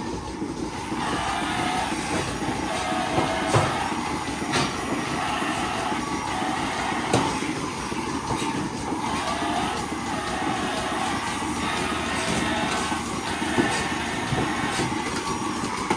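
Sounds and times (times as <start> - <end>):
milking machinery rumble: 0.0 - 15.9
rotating brush working: 0.7 - 15.9.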